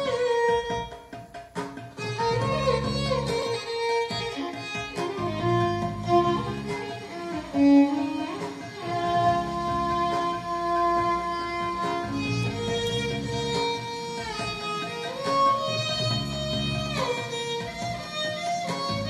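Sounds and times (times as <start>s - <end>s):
violin slow melody: 0.0s - 1.3s, 2.0s - 19.0s
soft instrumental backing: 0.0s - 19.0s.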